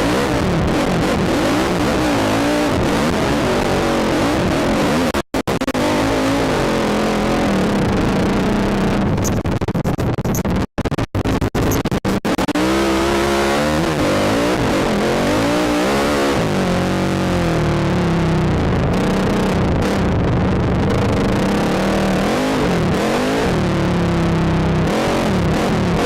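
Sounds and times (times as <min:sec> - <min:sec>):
atv engine revving: 0:00.0 - 0:09.4, 0:12.3 - 0:20.2, 0:20.8 - 0:26.0.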